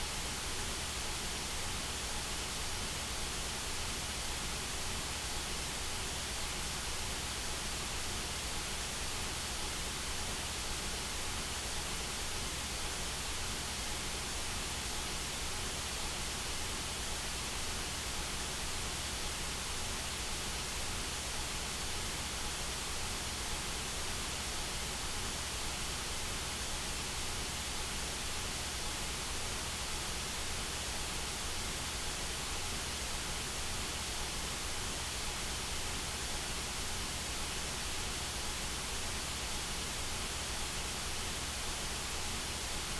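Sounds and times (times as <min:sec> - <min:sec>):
white noise hiss: 0:00.0 - 0:42.9.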